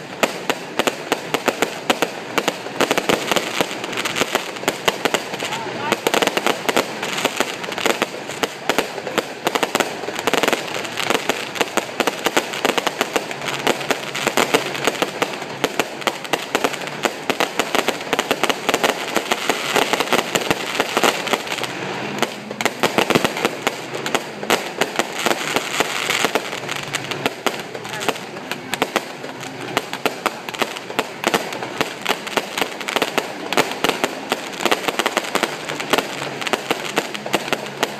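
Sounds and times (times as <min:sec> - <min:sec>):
fireworks pops and bangs: 0:00.0 - 0:37.9.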